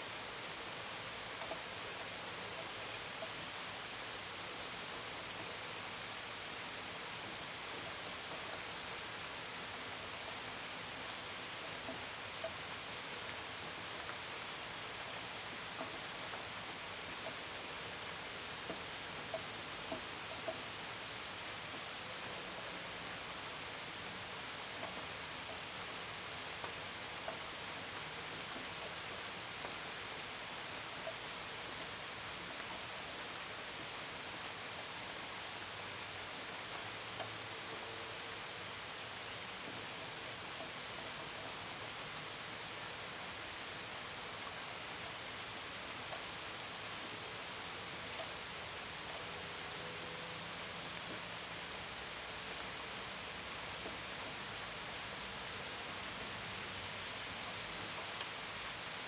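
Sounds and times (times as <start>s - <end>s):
gentle rain hissing: 0.0s - 59.0s.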